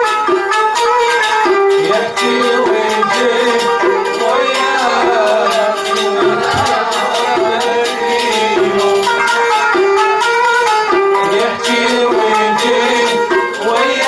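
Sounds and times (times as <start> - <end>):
bowed violin: 0.0 - 14.0
struck santur melody: 0.0 - 14.0.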